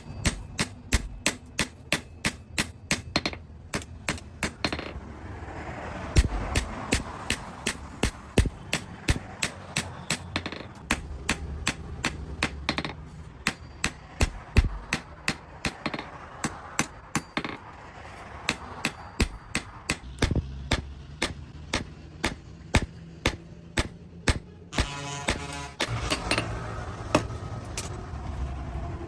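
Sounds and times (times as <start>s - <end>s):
hammer striking metal on anvil: 0.0s - 5.0s, 6.2s - 28.0s.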